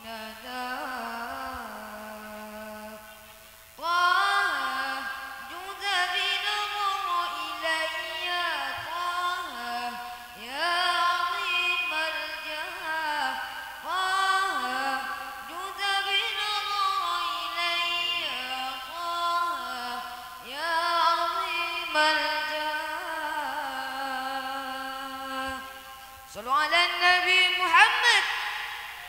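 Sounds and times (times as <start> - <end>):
person singing ornamented phrases: 0.0 - 3.2, 3.8 - 29.0.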